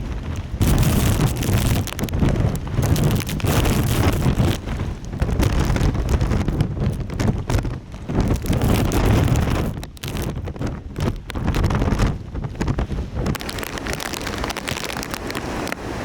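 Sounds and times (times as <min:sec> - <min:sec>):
hissing rain and spray: 0:00.0 - 0:16.0
strong wind buffeting microphone: 0:00.0 - 0:16.0.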